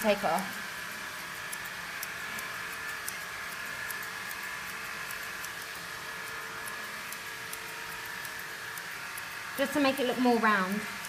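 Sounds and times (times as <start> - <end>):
scissors snipping fur: 0.0 - 11.0.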